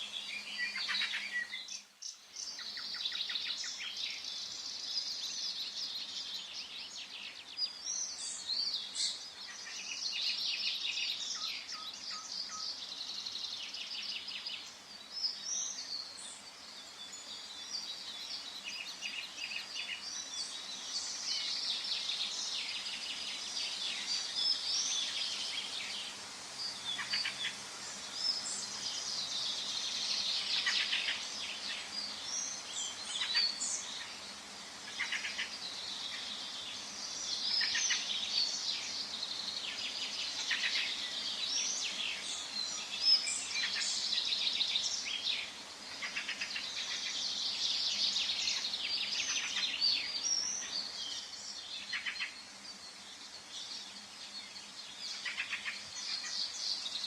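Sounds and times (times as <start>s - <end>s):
birds singing and chirping: 0.0s - 57.0s
faint steady background hiss: 0.0s - 57.0s.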